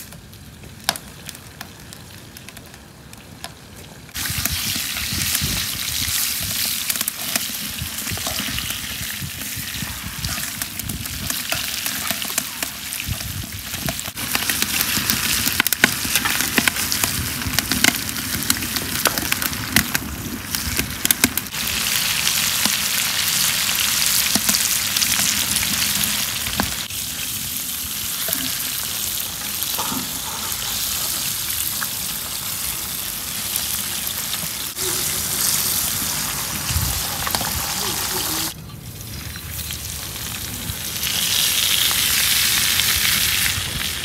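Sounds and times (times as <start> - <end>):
fish sizzling in hot oil: 4.1 - 44.0.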